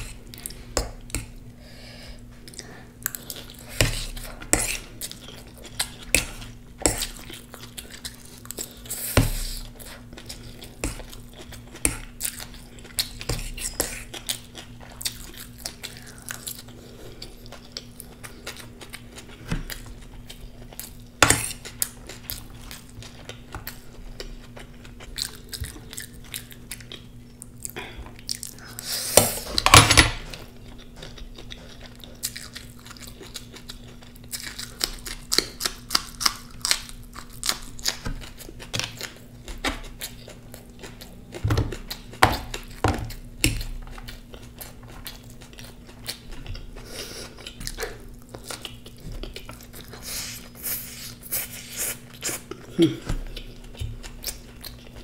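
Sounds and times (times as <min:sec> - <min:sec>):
steady low hum: 0:00.0 - 0:55.0
chewing and crunching: 0:02.2 - 0:55.0.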